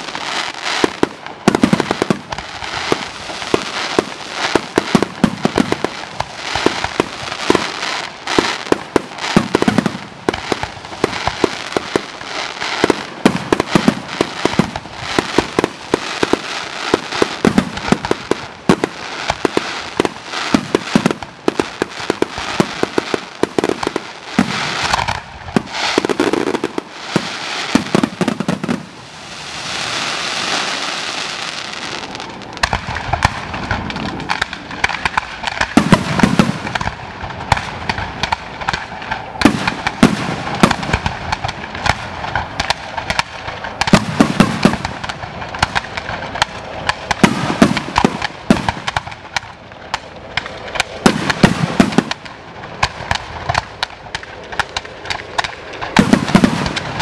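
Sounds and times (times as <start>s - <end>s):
firework hiss: 0.0s - 57.0s
firework shells booming: 0.0s - 57.0s
fireworks crackling and popping: 0.0s - 57.0s.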